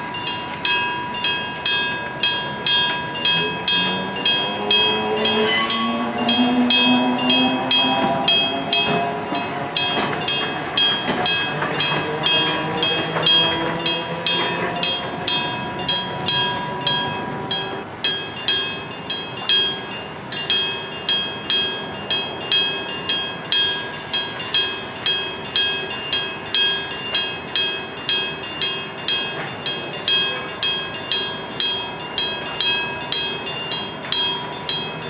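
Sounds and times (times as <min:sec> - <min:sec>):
level crossing bell ringing: 0:00.0 - 0:35.0
train passing: 0:00.0 - 0:35.0.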